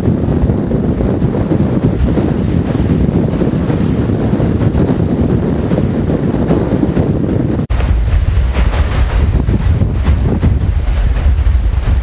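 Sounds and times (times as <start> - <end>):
surf breaking on rocky shore: 0.0 - 12.0
wind buffeting microphone: 0.0 - 12.0.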